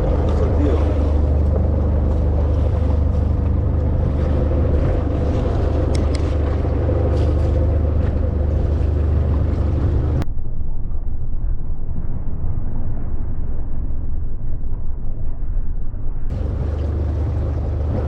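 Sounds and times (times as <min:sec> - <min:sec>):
boat engine droning: 0:00.0 - 0:18.0
dull hum: 0:00.0 - 0:18.0.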